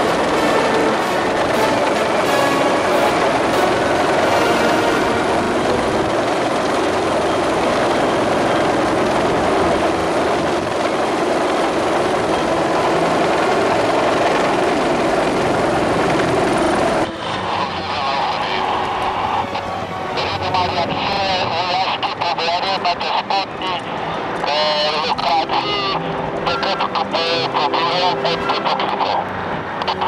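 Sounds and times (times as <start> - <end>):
helicopter rotor and engine: 0.0 - 30.0.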